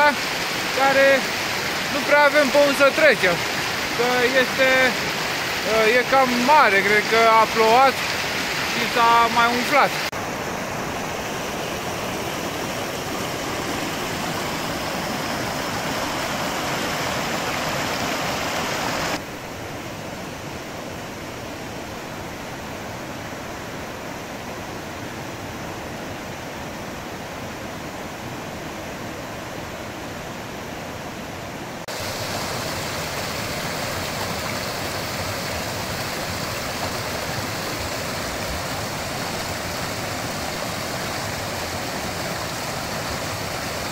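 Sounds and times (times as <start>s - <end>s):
rushing mountain stream: 0.0s - 43.9s.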